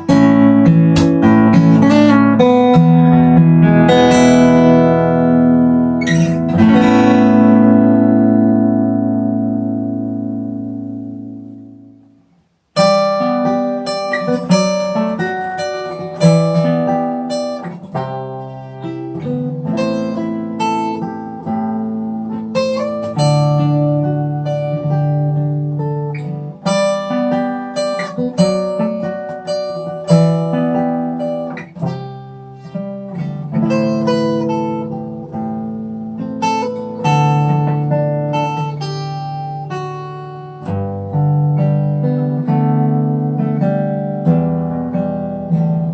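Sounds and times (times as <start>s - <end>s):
acoustic guitar playing: 0.0s - 45.9s.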